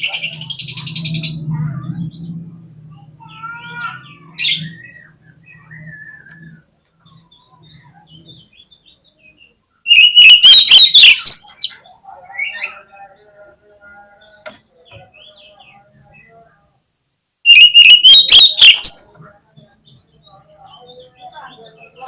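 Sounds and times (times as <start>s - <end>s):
bird singing: 3.3s - 16.7s, 17.4s - 22.0s.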